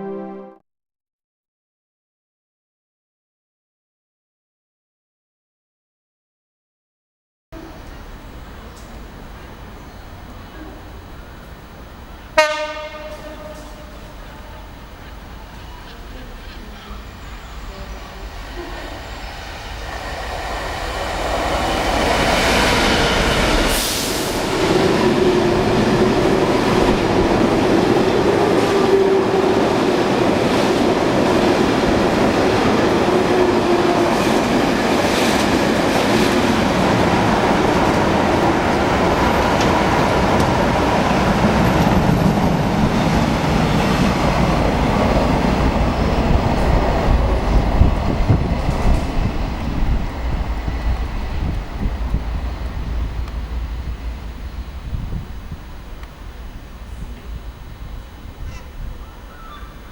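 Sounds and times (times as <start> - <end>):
diesel locomotives passing: 7.6 - 59.9.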